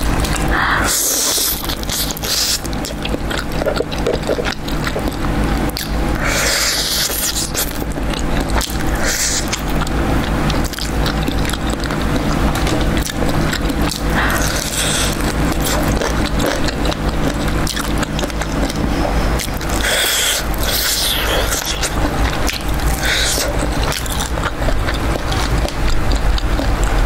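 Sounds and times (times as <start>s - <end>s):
chewing with wet smacking: 0.0s - 27.0s
steady low hum: 0.0s - 27.0s.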